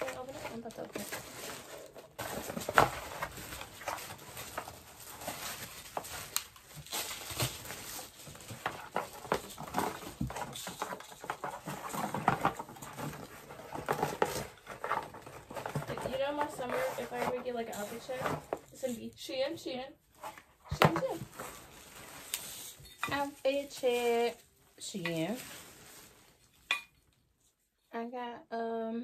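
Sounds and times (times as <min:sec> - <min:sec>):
cardboard scraping and rustling: 0:00.0 - 0:19.5, 0:20.2 - 0:26.5.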